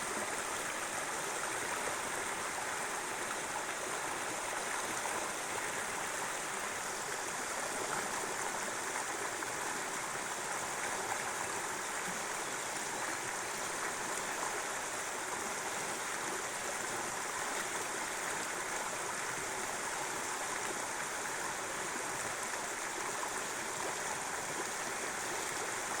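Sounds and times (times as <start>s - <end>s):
river water rushing over shallows: 0.0s - 26.0s.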